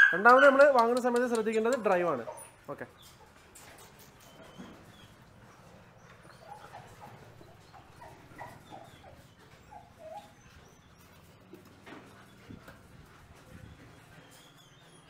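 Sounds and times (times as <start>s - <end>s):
puppies whimpering: 1.8s - 3.3s, 4.2s - 15.0s.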